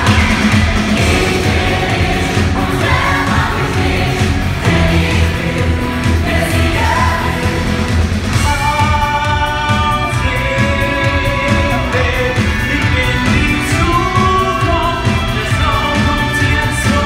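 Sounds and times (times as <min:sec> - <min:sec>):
amplified band music: 0:00.0 - 0:17.0
voices singing held notes: 0:00.0 - 0:17.0.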